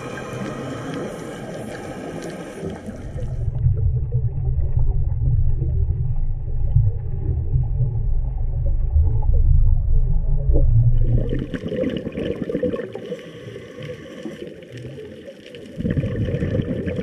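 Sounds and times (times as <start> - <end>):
underwater air bubbles: 0.0 - 17.0.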